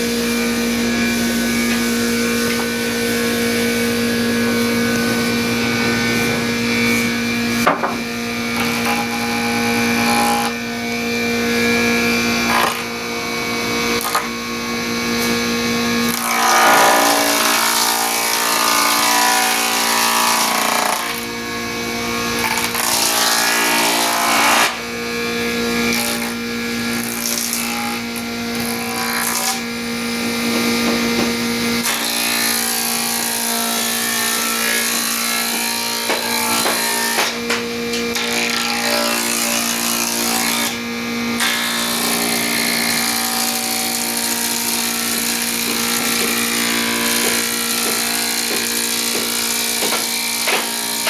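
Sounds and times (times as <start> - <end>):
electric wood planer running: 0.0 - 51.0.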